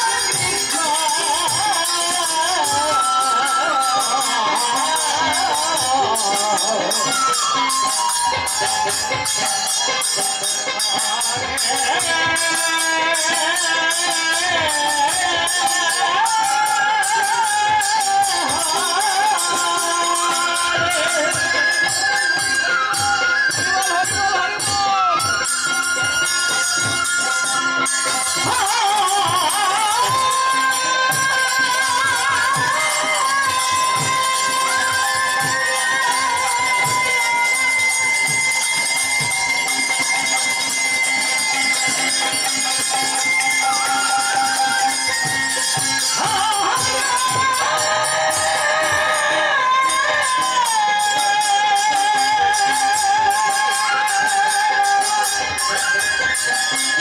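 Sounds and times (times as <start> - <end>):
hand cymbals jingling: 0.0 - 57.0.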